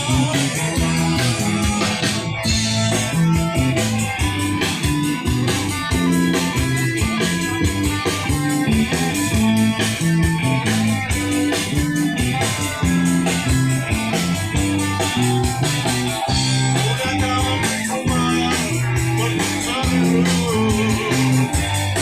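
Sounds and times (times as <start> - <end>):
rock guitar: 0.0 - 22.0
steady drum beat: 0.0 - 22.0.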